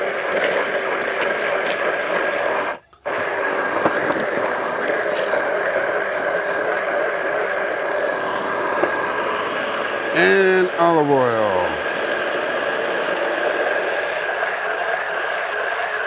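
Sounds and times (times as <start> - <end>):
immersion blender whining: 0.0 - 16.0.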